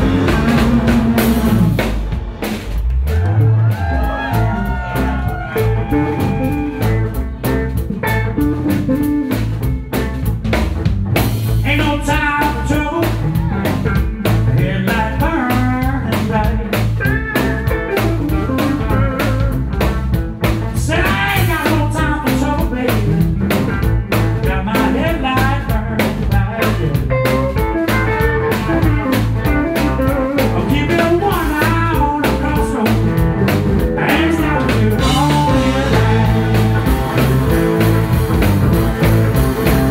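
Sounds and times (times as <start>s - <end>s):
wavering lead guitar: 0.0s - 2.4s, 3.1s - 39.9s
bass guitar: 0.0s - 39.9s
drum kit beat: 0.0s - 39.9s
electric guitars: 0.0s - 39.9s.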